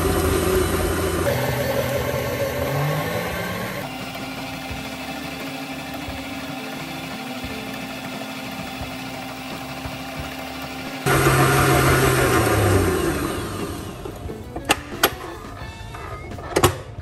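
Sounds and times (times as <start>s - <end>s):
stand mixer motor kneading dough: 0.0s - 15.7s.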